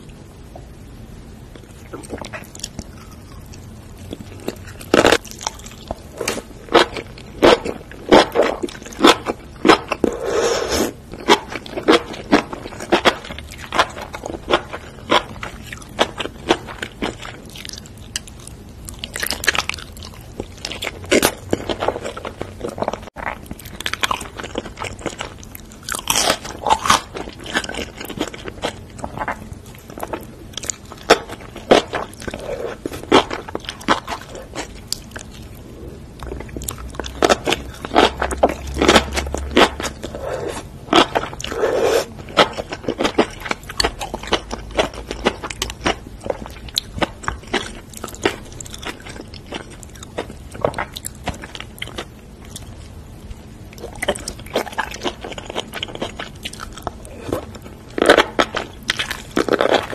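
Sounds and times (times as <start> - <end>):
person chewing crunchy food: 1.4 - 59.9.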